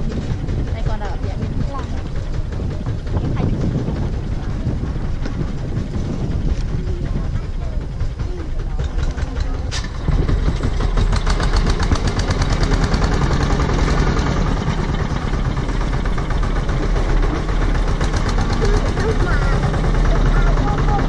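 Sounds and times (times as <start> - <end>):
tractor engine chugging: 0.0 - 21.0.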